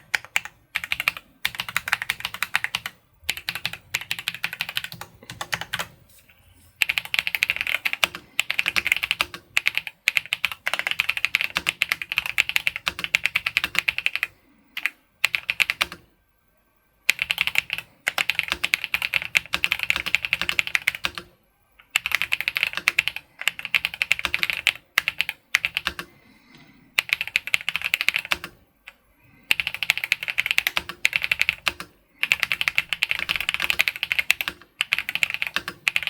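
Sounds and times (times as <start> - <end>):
mechanical keyboard typing: 0.0 - 5.9, 6.8 - 16.0, 17.1 - 26.1, 27.0 - 28.6, 29.5 - 36.0.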